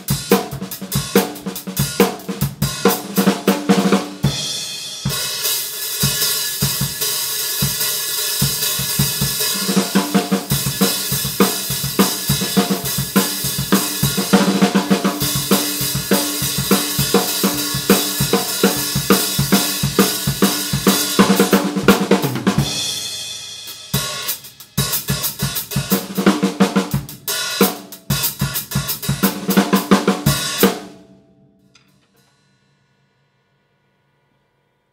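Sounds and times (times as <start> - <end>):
drum kit playing: 0.0 - 31.0.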